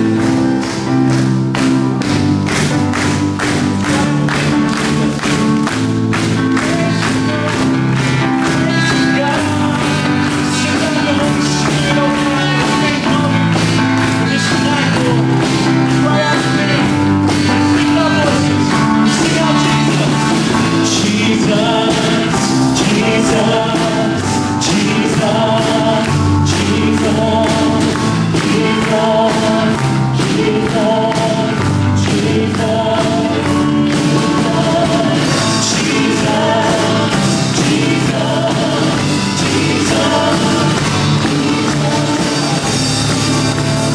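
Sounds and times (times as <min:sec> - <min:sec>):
person singing: 0:00.0 - 0:43.9
steady drum beat: 0:00.0 - 0:43.9
worship band playing: 0:00.0 - 0:43.9.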